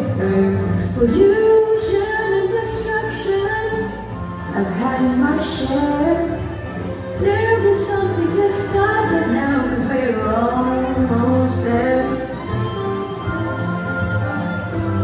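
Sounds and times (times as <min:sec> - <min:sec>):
song with female vocals: 0:00.0 - 0:15.0.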